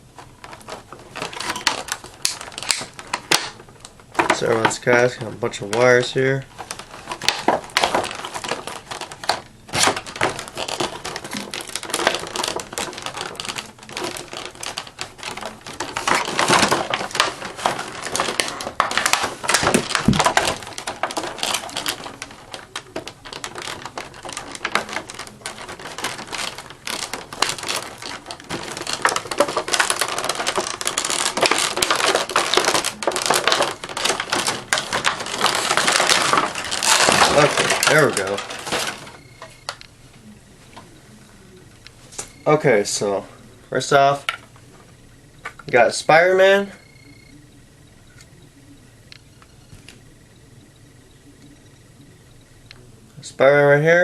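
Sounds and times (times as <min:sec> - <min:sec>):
plastic packaging crinkling: 0:00.0 - 0:47.4.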